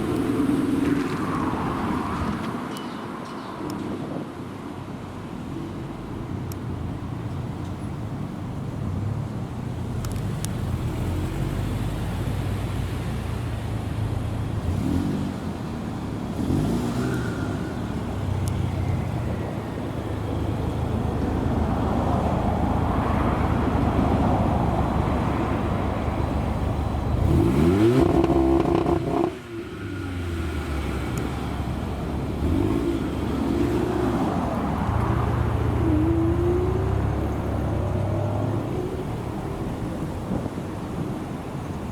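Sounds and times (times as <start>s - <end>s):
car engines revving: 8.0s - 41.9s.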